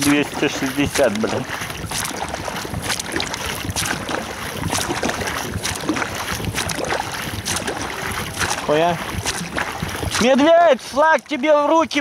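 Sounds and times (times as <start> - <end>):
wind buffeting microphone: 0.0 - 11.0
motorboat engine and water rush: 0.0 - 12.0.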